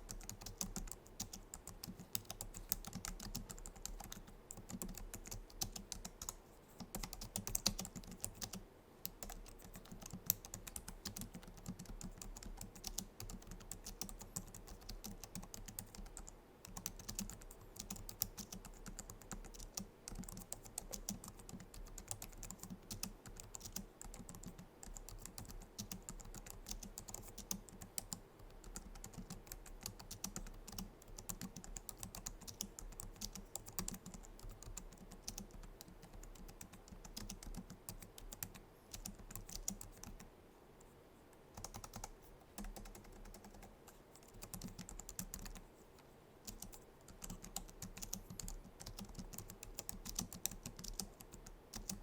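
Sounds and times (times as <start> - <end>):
keyboard typing soft clicks: 0.0 - 52.0.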